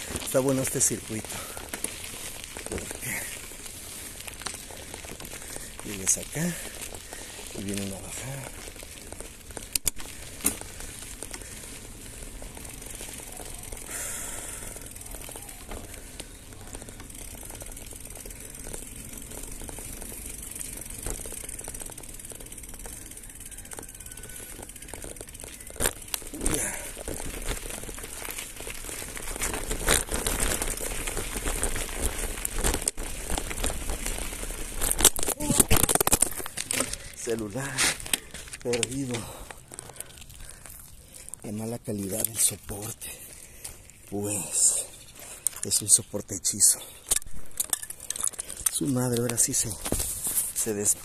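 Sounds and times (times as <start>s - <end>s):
bike clicks and rattles: 0.0s - 51.0s
bike rolling rustle: 0.0s - 51.0s.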